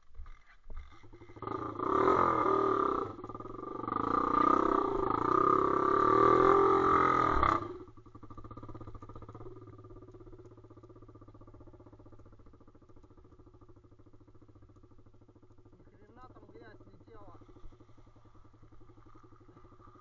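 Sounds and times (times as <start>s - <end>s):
motorbike engine revving: 0.2s - 20.0s.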